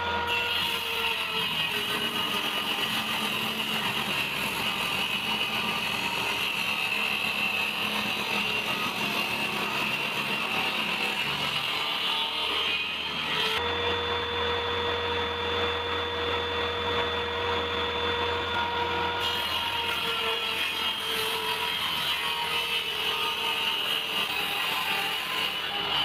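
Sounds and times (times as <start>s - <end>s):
electric power tool whining: 0.0s - 26.0s.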